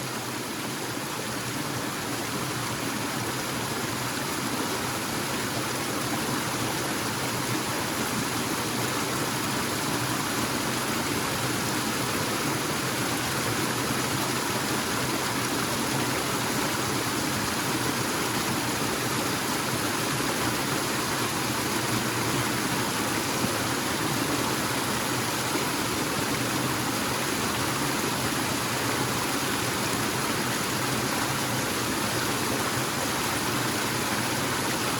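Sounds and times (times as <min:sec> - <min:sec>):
waterfall rushing and splashing: 0:00.0 - 0:34.9.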